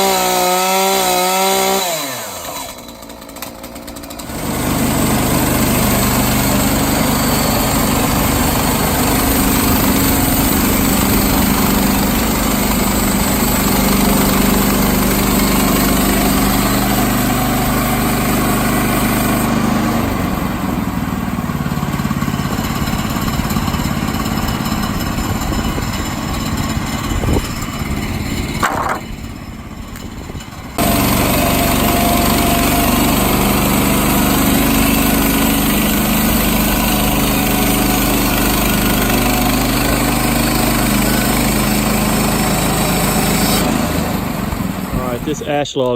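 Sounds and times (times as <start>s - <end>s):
small gas engine running: 0.0s - 45.9s.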